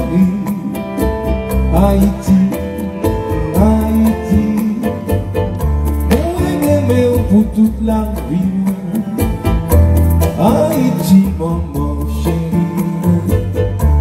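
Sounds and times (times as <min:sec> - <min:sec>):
heavy bass line: 0:00.0 - 0:14.0.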